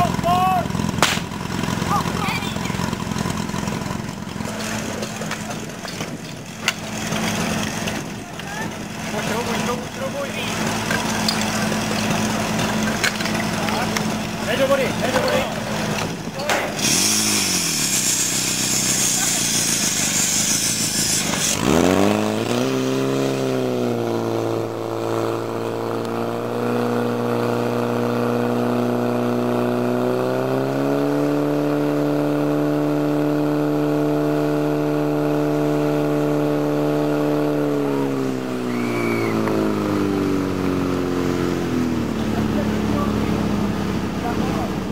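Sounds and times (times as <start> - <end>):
fire pump engine revving: 0.0 - 44.9.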